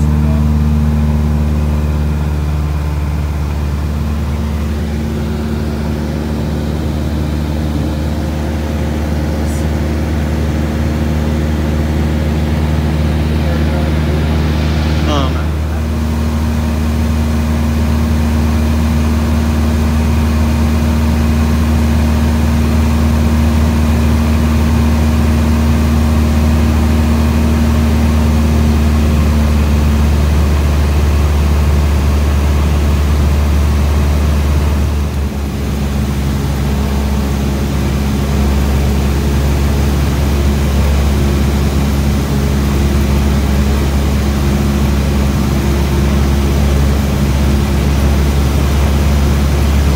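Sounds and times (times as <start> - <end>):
aircraft engine and propeller drone: 0.0 - 49.9.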